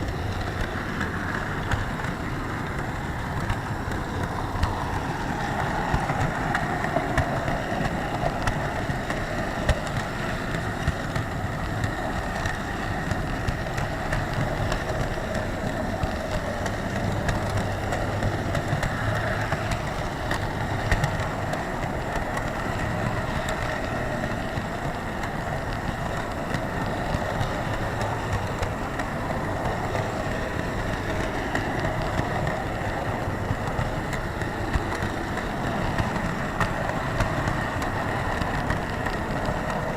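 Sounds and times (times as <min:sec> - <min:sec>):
model train rumbling on track: 0:00.0 - 0:39.9
wheels clicking on rails: 0:00.0 - 0:39.9.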